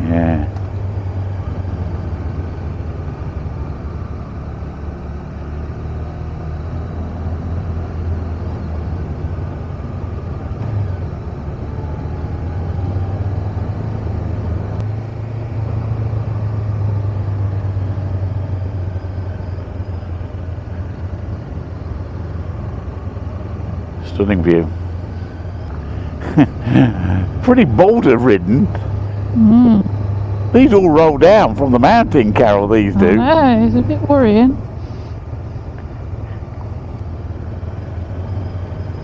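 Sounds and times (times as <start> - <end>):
road and wind noise: 0.0 - 39.0.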